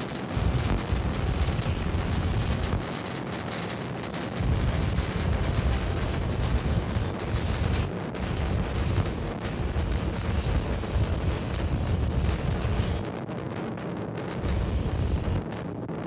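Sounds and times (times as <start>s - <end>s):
rocket engines rumbling: 0.0s - 16.0s.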